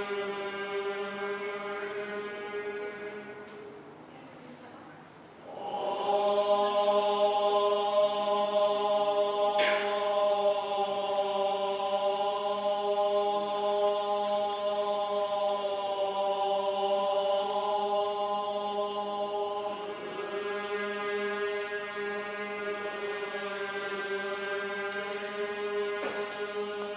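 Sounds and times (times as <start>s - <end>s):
monks chanting in unison: 0.0s - 3.7s, 5.4s - 26.9s.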